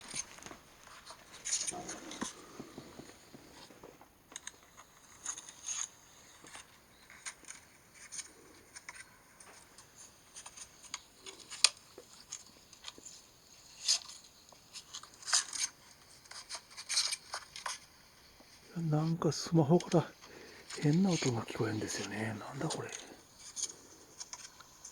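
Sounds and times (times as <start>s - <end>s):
scratchy crackling from phone speaker: 0.0s - 14.0s, 18.5s - 24.9s.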